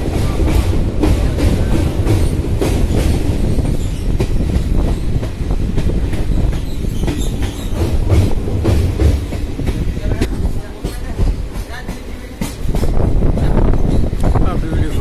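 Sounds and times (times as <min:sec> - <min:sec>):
train coaches rumbling: 0:00.0 - 0:15.0
wheels clacking over rail joints: 0:00.0 - 0:15.0.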